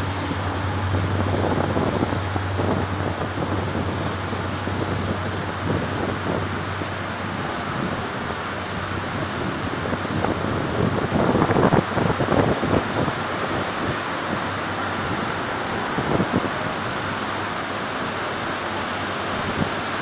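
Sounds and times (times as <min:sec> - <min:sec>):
heavy rain hissing: 0:00.0 - 0:20.0
passenger train rolling past: 0:00.0 - 0:20.0
wind buffeting: 0:00.0 - 0:20.0.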